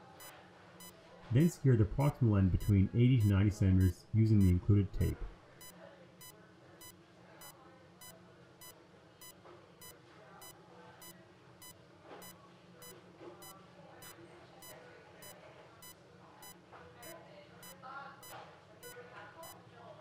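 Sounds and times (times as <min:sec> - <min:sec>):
patient monitor beeping: 0:00.0 - 0:19.6.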